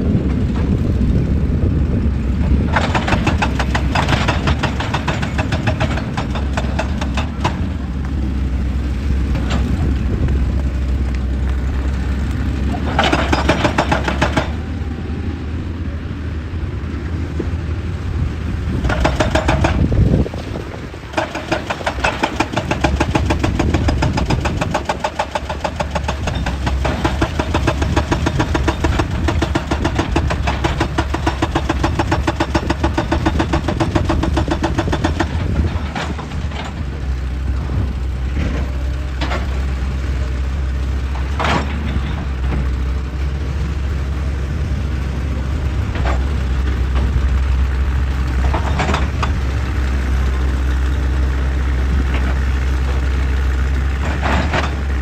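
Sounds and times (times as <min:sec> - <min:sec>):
excavator diesel engine rumbling: 0:00.0 - 0:55.0.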